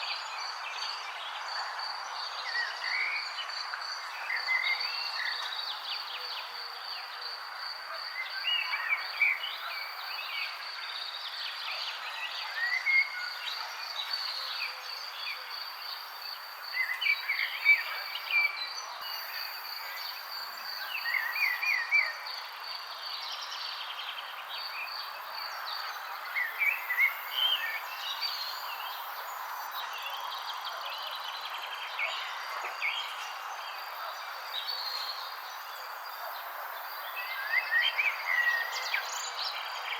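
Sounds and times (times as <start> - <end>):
soft outdoor hiss: 3.3 - 39.9.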